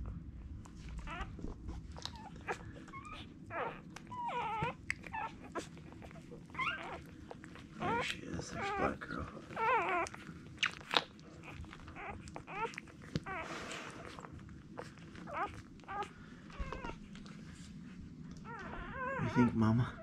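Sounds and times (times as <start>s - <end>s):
puppies squeaking and whimpering: 0.8s - 20.0s.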